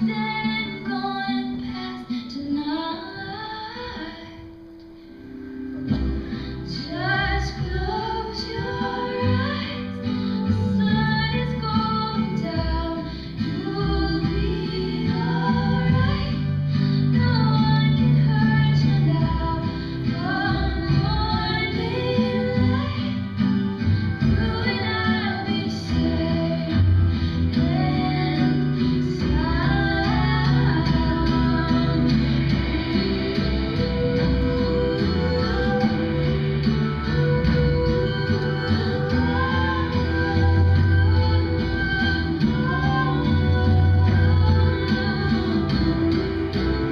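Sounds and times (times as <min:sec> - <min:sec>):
woman singing: 0:00.0 - 0:04.8, 0:06.0 - 0:46.9
instrumental backing: 0:00.0 - 0:46.9
plucked guitar: 0:00.0 - 0:46.9.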